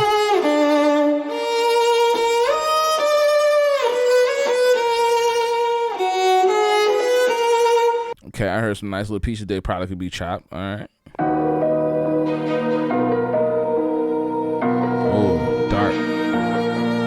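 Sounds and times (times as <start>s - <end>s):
cello playing slow melody: 0.0s - 8.2s, 11.2s - 17.0s.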